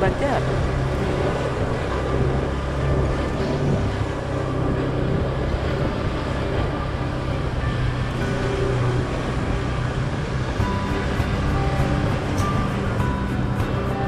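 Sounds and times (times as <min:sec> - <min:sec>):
motorcycle engine running: 0:00.0 - 0:14.0
road noise: 0:00.0 - 0:14.0
wind noise: 0:00.0 - 0:14.0.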